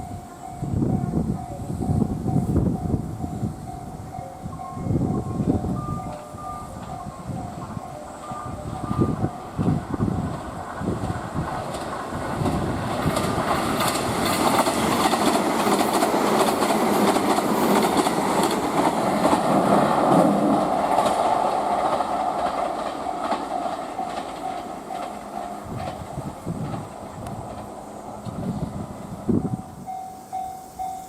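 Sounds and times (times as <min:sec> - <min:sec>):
train wheels clacking on rails: 0:00.0 - 0:31.0.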